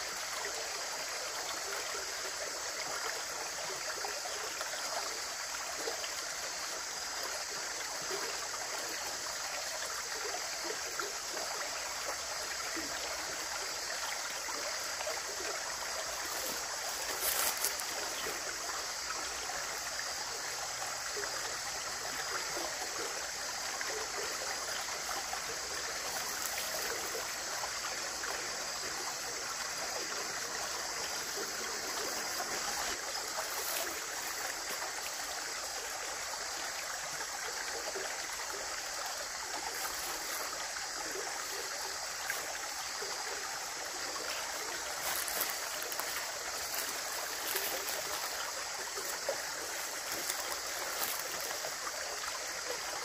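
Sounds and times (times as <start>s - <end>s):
running water rushing and trickling: 0.0s - 53.0s.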